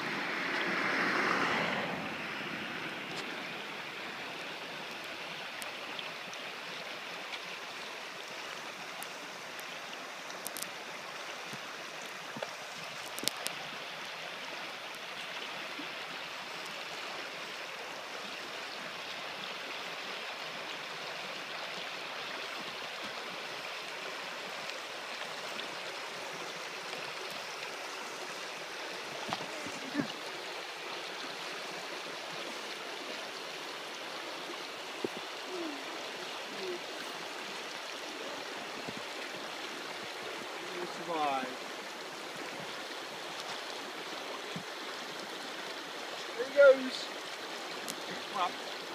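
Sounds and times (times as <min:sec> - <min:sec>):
stream running over stones: 0:00.0 - 0:48.9.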